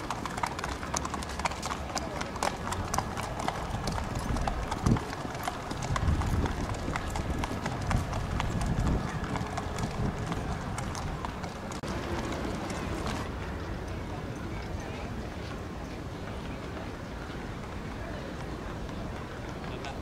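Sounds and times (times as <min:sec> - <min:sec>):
horse hooves clip-clopping: 0:00.0 - 0:20.0.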